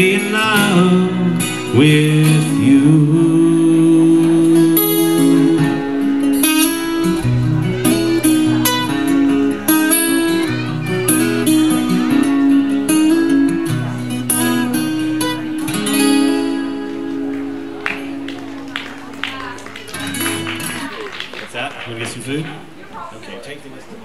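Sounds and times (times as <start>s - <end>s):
acoustic guitar playing: 0.0s - 21.3s.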